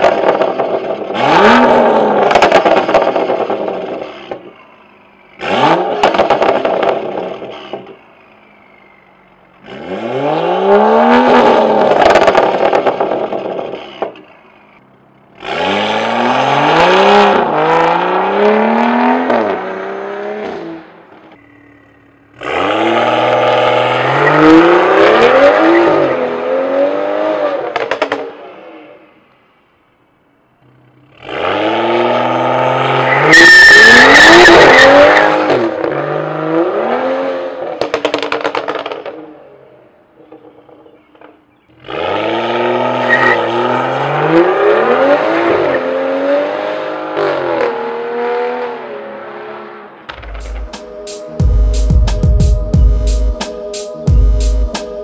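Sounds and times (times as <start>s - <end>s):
car engine accelerating hard: 0.0s - 29.0s, 30.6s - 39.4s, 41.7s - 50.7s.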